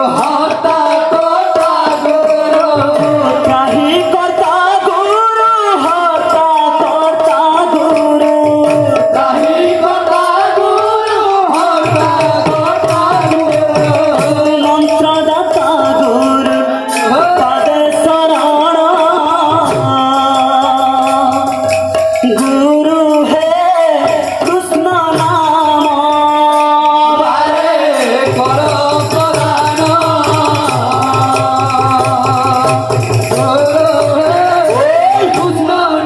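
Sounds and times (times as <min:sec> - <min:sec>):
men singing a devotional chant: 0:00.0 - 0:36.0.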